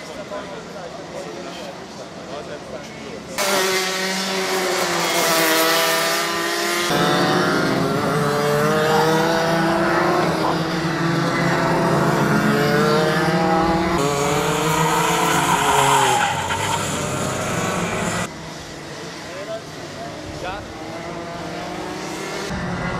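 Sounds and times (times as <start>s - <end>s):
kart engines revving: 0.0s - 22.9s.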